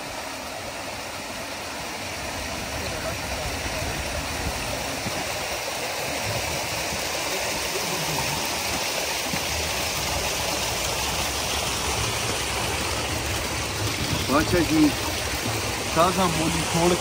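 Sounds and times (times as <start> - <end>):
water pouring and splashing: 0.0 - 17.0.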